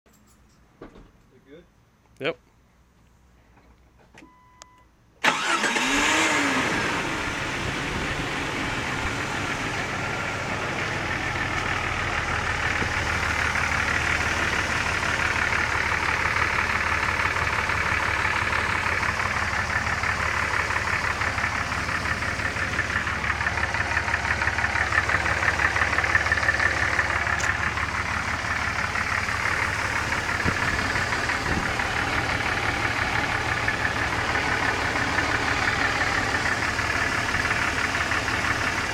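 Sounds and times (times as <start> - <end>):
car engine starting and idling: 3.6 - 38.9.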